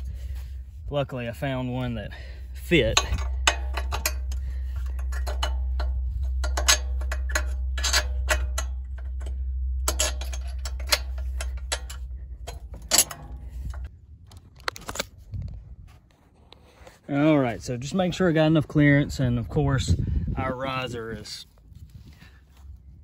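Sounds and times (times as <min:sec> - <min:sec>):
low rumble: 0:00.0 - 0:16.1, 0:17.6 - 0:23.0.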